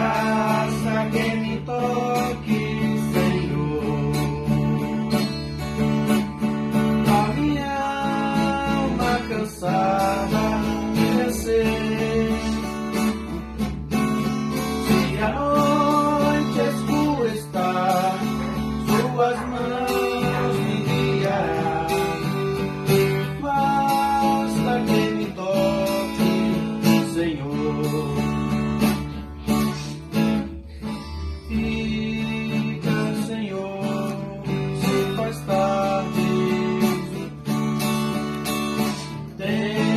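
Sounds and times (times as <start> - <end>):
acoustic guitar strummed: 0.0 - 39.9.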